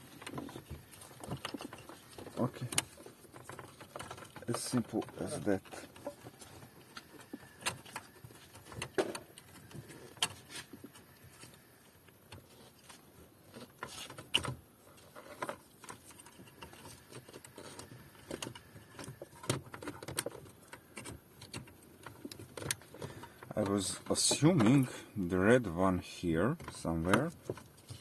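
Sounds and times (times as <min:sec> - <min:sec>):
hands handling wiring connectors: 0:00.0 - 0:25.6.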